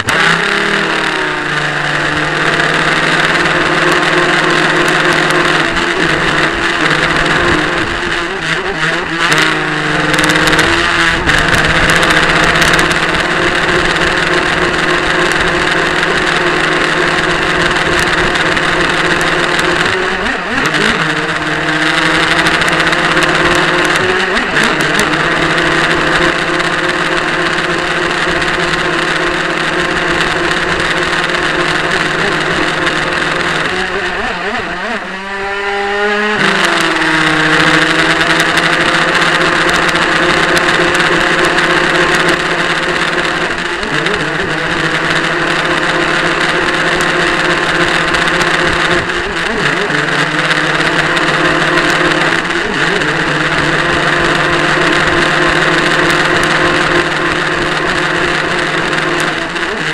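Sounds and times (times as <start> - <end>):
model boat motor running: 0.0 - 59.9.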